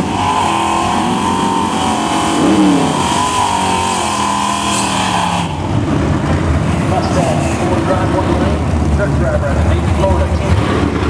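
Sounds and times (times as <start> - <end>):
drag car engine at high revs: 0.0 - 11.0
second race car engine: 0.0 - 11.0.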